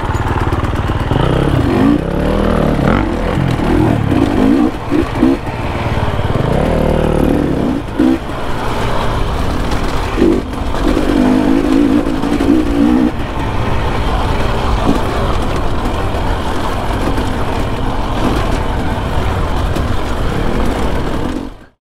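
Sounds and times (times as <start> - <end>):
dirt bike engine running: 0.0 - 21.7.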